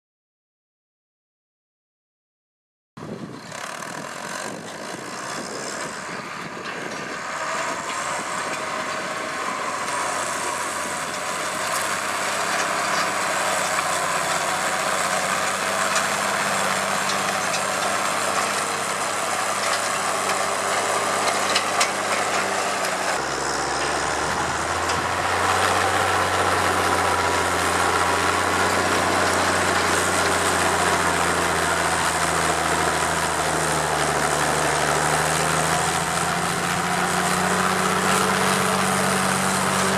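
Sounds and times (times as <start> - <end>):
tractor diesel engine under load: 3.0 - 39.9.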